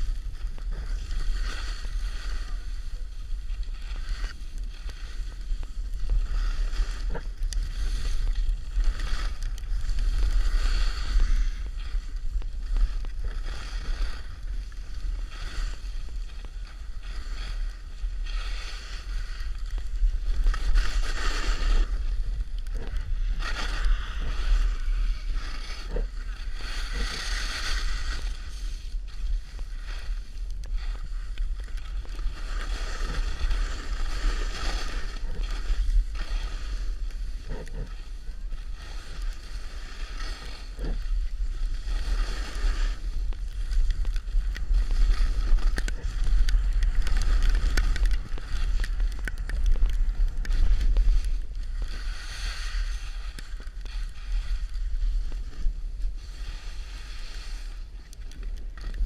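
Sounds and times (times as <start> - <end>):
skis scraping over snow: 0.0 - 59.0.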